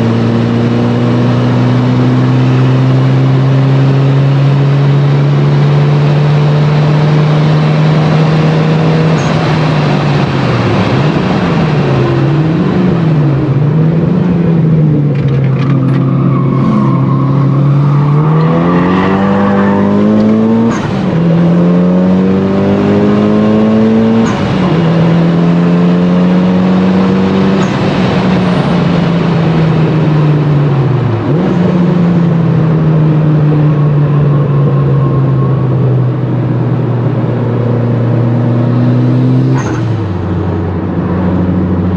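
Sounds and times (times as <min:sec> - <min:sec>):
car engine revving through gears: 0:00.0 - 0:41.9.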